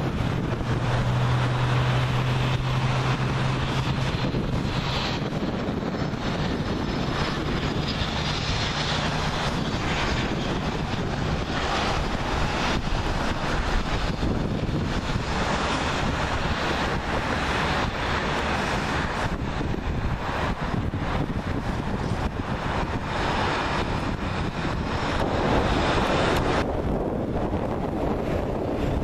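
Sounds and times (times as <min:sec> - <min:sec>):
jet engine rumble and hiss: 0:00.0 - 0:29.0.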